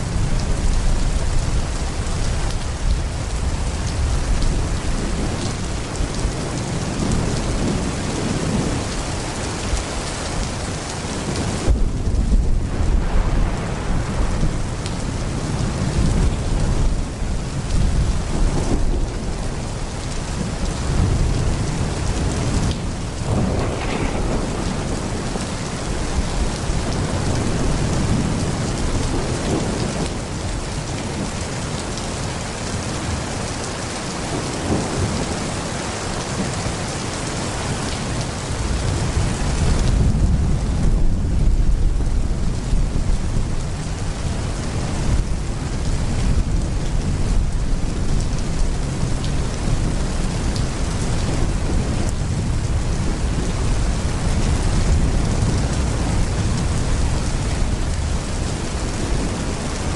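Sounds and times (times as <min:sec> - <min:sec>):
rolling thunder: 0:00.0 - 0:31.4, 0:36.2 - 0:59.9
heavy rain pouring: 0:00.0 - 0:59.9.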